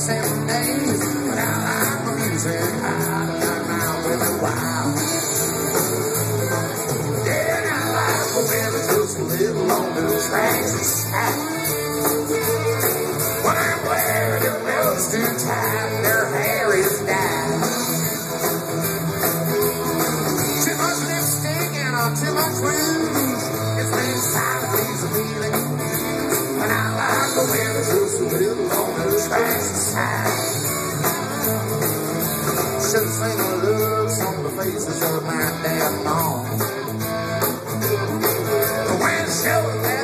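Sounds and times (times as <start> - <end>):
country rock band playing: 0.0 - 40.0.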